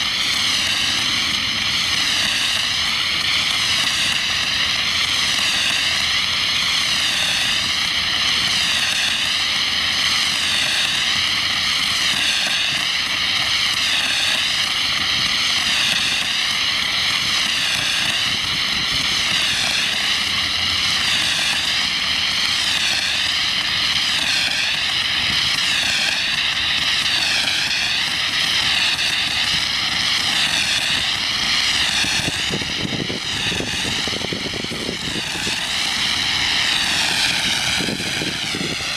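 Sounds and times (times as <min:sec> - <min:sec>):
foam hissing from hose nozzle: 0:00.0 - 0:38.9.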